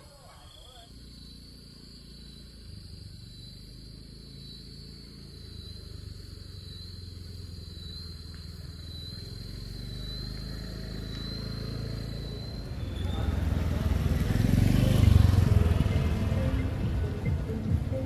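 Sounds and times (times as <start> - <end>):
high-pitched insect trill: 0.0 - 17.0
motorbike engine rumble: 0.0 - 18.0.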